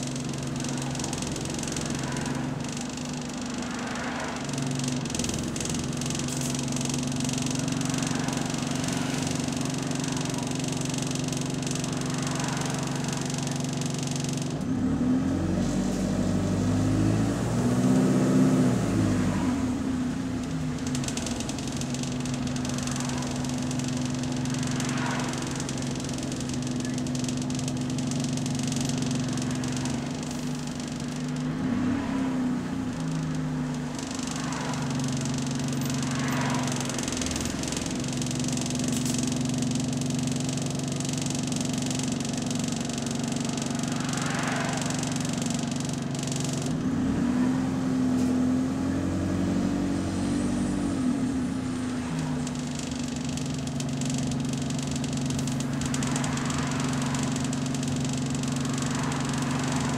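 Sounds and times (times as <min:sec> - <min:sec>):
bus engine idling and revving: 0:00.0 - 0:59.9.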